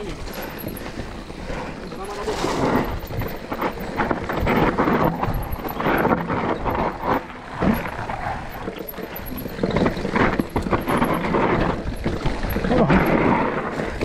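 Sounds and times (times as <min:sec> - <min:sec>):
bike rattling and knocking: 0:00.0 - 0:14.0
bike tyres rolling over dirt and rocks: 0:00.0 - 0:14.0.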